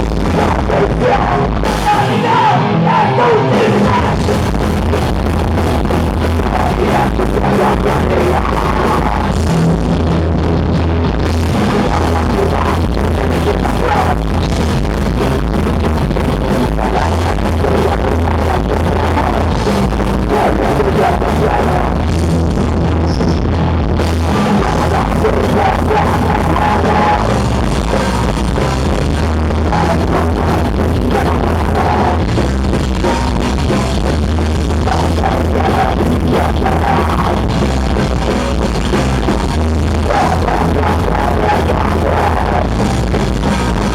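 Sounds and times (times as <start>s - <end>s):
punk band playing live: 0.0s - 43.9s.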